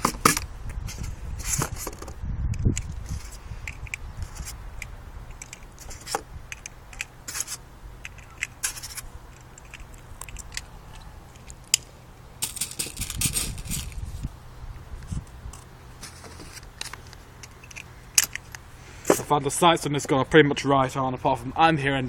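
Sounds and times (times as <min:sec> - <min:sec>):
wind rumbling on microphone: 0:00.0 - 0:11.7, 0:12.4 - 0:18.7
metallic clicks and scrapes: 0:00.0 - 0:14.2, 0:15.0 - 0:19.3.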